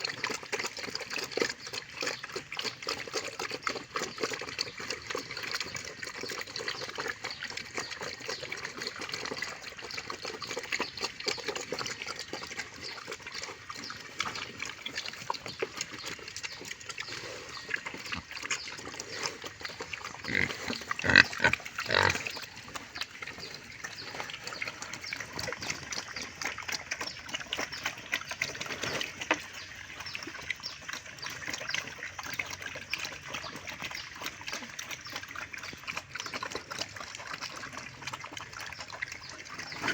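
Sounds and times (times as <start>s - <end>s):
pigs crunching and chewing: 0.0s - 39.9s
pigs outburst: 0.0s - 39.9s.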